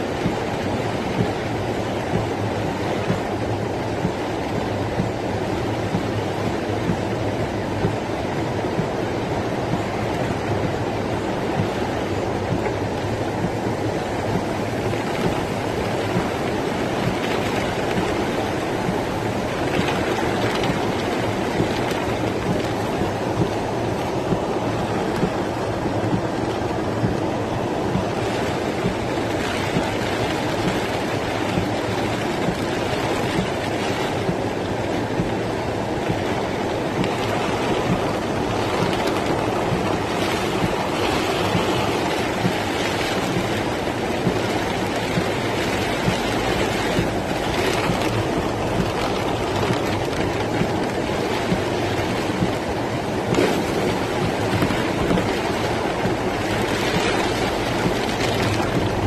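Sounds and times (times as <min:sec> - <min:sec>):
rainwater rushing down street: 0:00.0 - 0:59.0.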